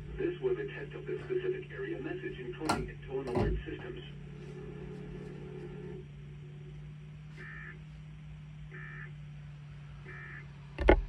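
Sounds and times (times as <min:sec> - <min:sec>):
low hum: 0:00.0 - 0:10.7.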